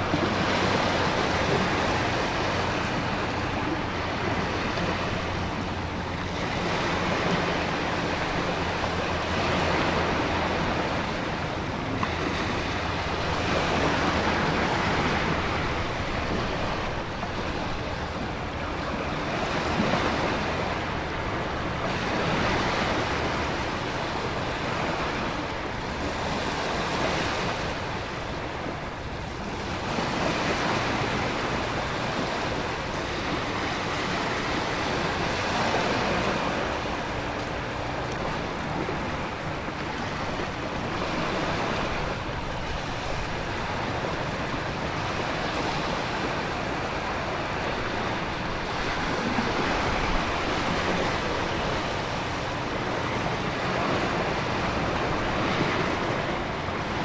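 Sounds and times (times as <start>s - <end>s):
ocean surf: 0.0s - 57.0s
wind: 0.0s - 57.0s.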